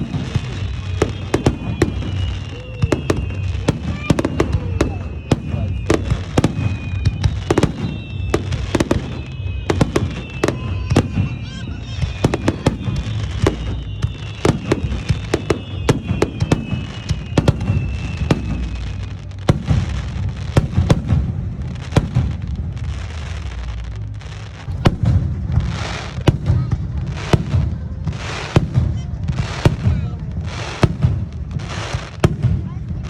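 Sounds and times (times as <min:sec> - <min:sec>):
falling firework whistle: 0:00.0 - 0:33.0
firework hiss: 0:00.0 - 0:33.0.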